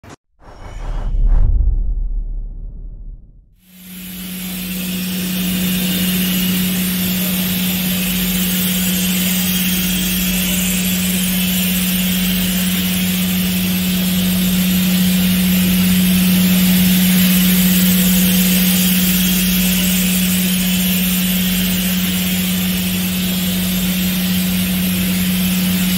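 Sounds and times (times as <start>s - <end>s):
hiss: 3.6s - 25.9s.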